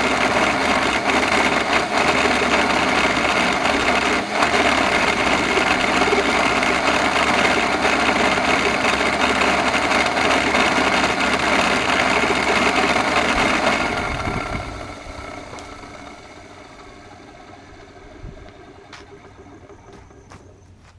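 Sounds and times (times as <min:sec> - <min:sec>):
motor winding down whine: 0:00.0 - 0:20.9
vacuum cleaner motor running: 0:00.0 - 0:20.9.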